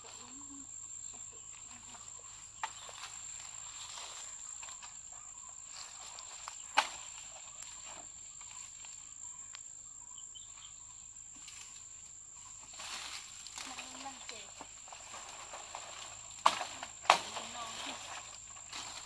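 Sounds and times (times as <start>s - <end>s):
leaves and stems rustling: 0.0s - 9.6s, 11.2s - 19.0s
insects trilling: 0.0s - 19.0s.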